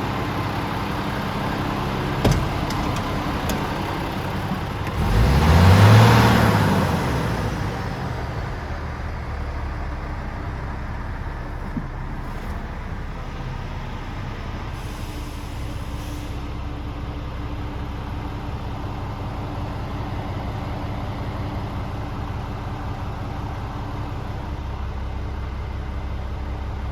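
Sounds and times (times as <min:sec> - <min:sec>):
diesel truck engine revving and idling: 0:00.0 - 0:26.9.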